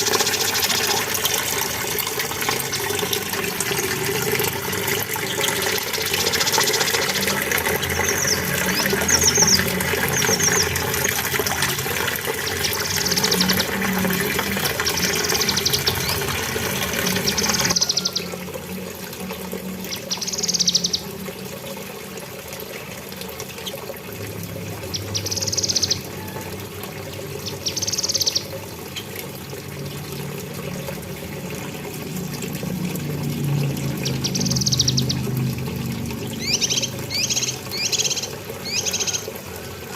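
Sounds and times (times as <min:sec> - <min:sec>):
rushing water-like noise: 0:00.0 - 0:39.9.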